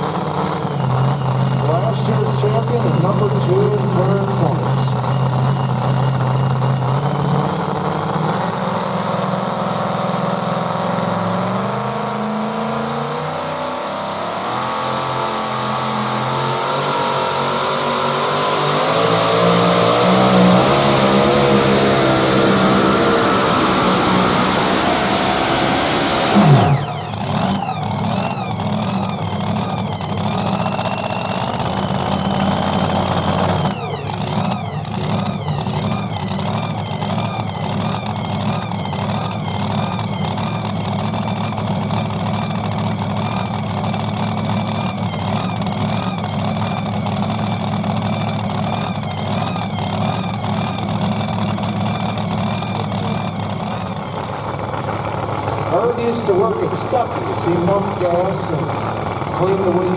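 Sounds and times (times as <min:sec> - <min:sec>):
engine idling: 0:00.0 - 0:13.0, 0:13.9 - 0:59.9
high wavering supercharger whine: 0:00.0 - 0:59.9
truck engine revs falling: 0:00.0 - 0:59.9.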